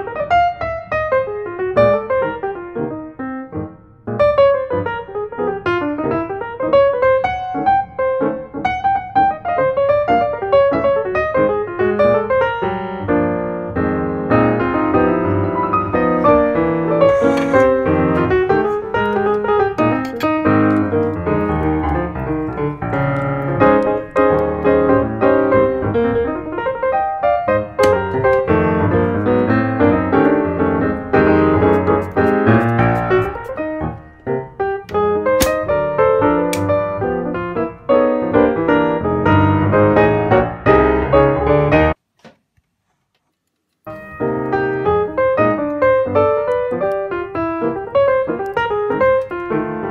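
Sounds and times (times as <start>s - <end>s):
piano music: 0.0s - 42.0s, 43.9s - 49.9s.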